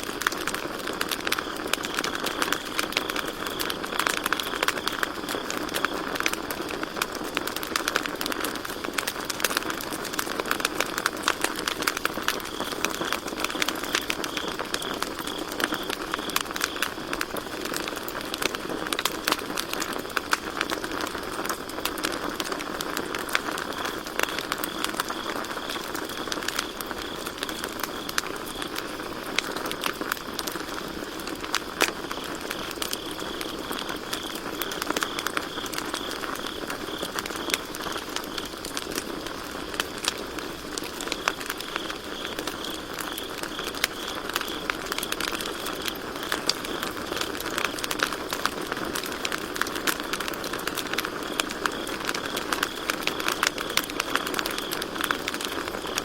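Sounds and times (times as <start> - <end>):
campfire crackling and popping: 0.0 - 56.0
crickets chirping: 0.2 - 56.0.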